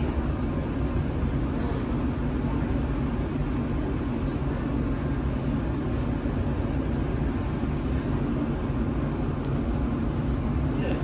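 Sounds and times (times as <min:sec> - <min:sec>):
road traffic: 0:00.0 - 0:11.0
tram rumble and hum: 0:00.0 - 0:11.0.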